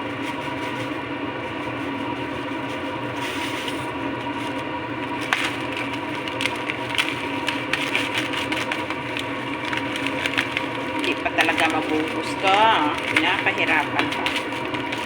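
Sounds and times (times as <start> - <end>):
steady hum: 0.0 - 15.0
dry noodle packet crackling: 0.1 - 15.0.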